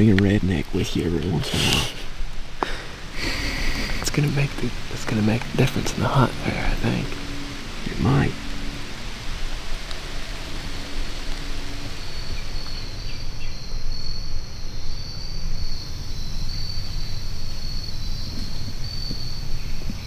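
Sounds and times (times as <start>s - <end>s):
insects trilling: 0.0s - 20.0s
low rumbling background noise: 0.0s - 20.0s.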